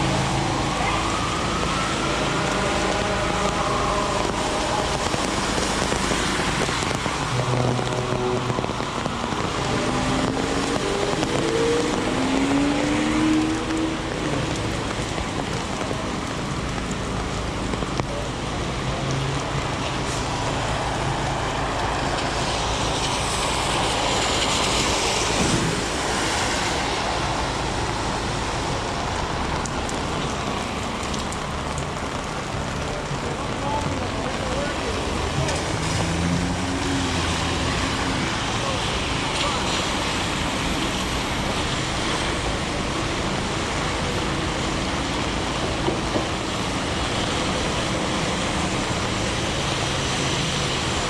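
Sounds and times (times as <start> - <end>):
car tyres hissing on wet road: 0.0 - 51.0
heavy rain on pavement: 0.0 - 51.0
street traffic: 0.0 - 51.0.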